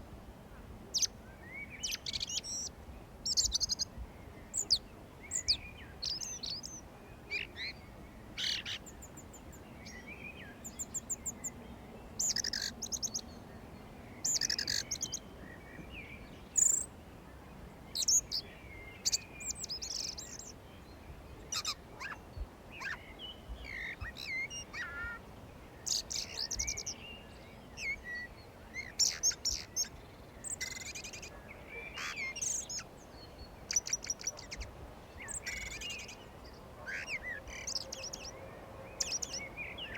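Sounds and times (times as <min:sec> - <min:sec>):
faint steady background hiss: 0:00.0 - 0:39.9
songbirds singing and chirping: 0:00.0 - 0:39.9.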